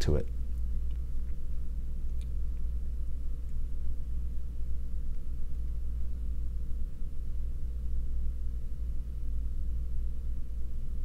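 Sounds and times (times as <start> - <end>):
faint hum: 0.0 - 11.0
steady low rumble: 0.0 - 11.0.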